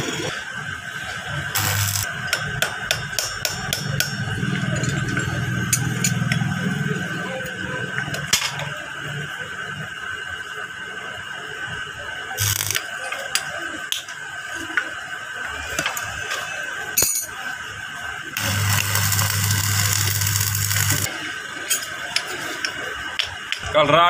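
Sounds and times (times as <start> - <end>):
loud steady hiss with low hum: 0.0 - 4.9, 5.6 - 24.0.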